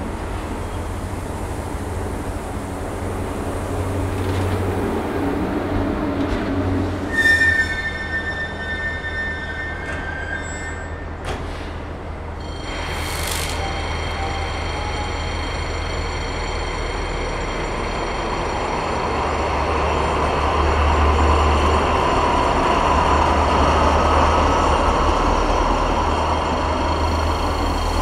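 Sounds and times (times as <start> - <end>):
diesel locomotive engine droning: 0.0 - 28.0.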